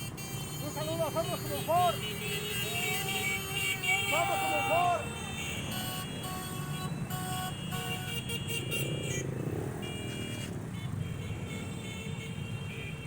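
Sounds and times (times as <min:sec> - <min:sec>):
vehicles passing with engine rumble: 0:00.0 - 0:13.0.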